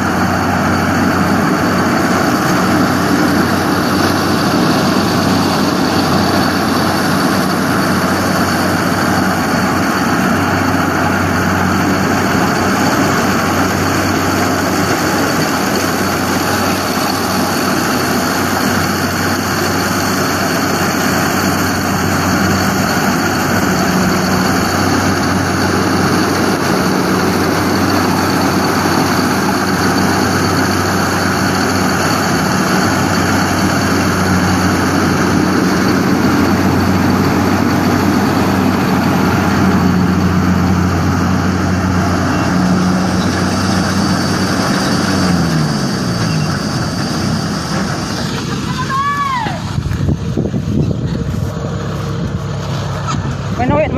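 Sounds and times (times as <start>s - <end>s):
harvester engine running: 0.0s - 53.9s.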